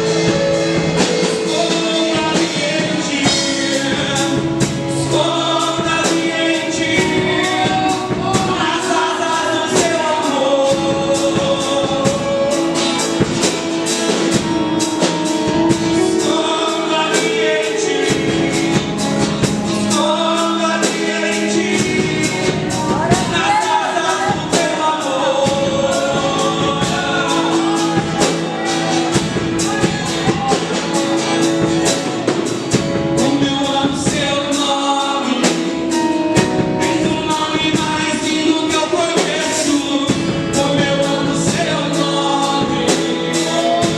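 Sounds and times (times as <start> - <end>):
person singing: 0.0 - 43.9
steady drum beat: 0.0 - 43.9.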